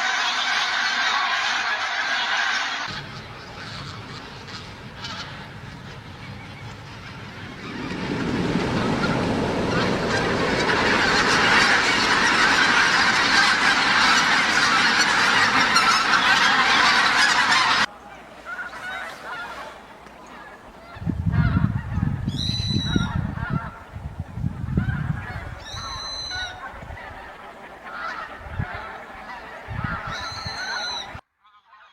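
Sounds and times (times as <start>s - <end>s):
geese honking: 0.0s - 31.9s.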